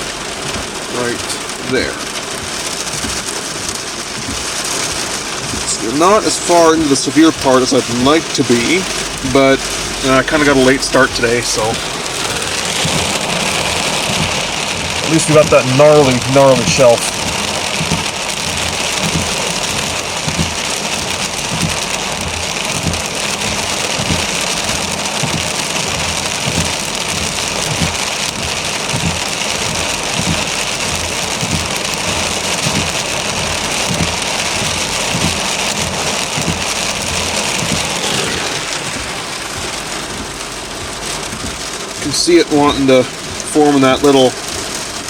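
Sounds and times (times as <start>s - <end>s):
rain falling on a car: 0.0s - 45.0s.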